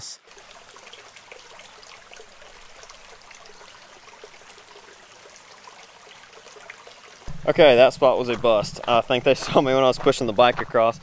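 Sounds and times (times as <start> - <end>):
creek trickling over rocks: 0.2 - 11.0.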